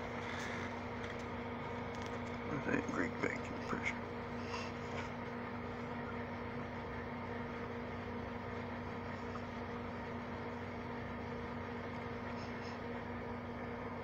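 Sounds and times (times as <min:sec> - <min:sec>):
air conditioning unit humming: 0:00.0 - 0:14.0.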